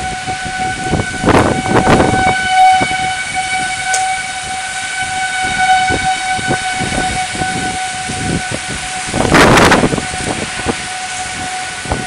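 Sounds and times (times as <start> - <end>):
steady high tone: 0.0 - 12.0
tornado winds gusting: 0.0 - 12.0.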